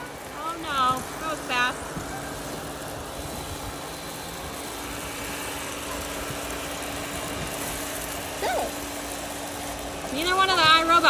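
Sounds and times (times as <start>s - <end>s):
robot vacuums whirring: 0.0s - 11.0s.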